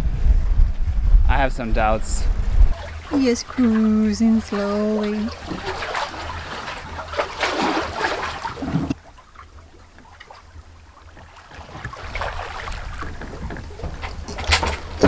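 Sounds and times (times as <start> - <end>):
water rushing along a hull: 2.7 - 15.0.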